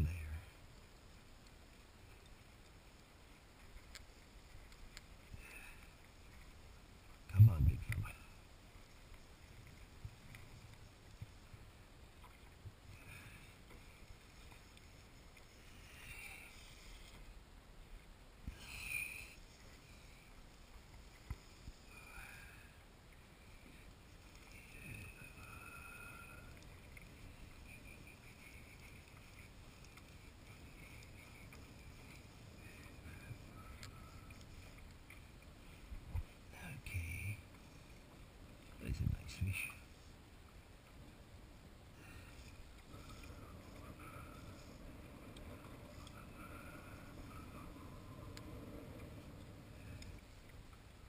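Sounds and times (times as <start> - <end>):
wind and water rumble: 0.0 - 51.0.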